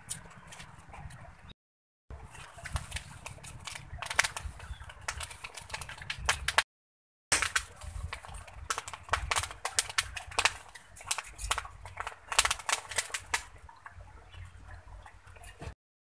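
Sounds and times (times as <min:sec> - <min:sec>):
wood fire crackling and popping: 0:02.1 - 0:06.7, 0:07.3 - 0:15.8.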